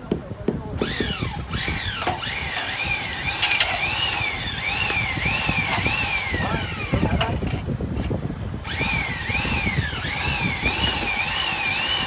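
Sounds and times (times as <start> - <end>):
power tool whining: 0.8 - 12.0.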